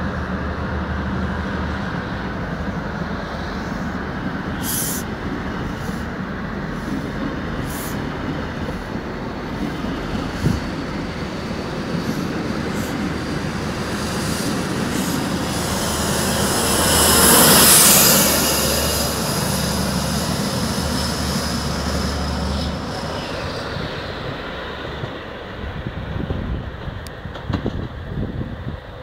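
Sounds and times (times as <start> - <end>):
diesel locomotive drone and whine: 0.0 - 29.0
train coaches rolling past: 0.0 - 29.0.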